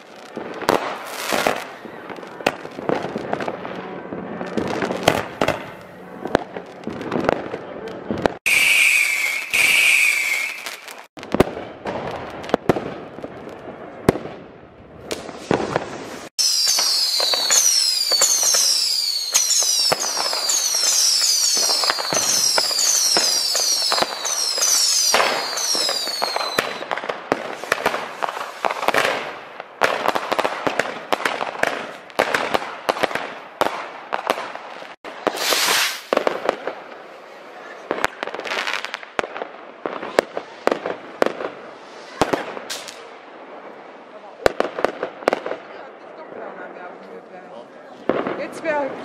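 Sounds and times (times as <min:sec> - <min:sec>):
whistling fireworks: 0:00.0 - 0:45.9
fireworks bangs and crackle: 0:00.0 - 0:49.0.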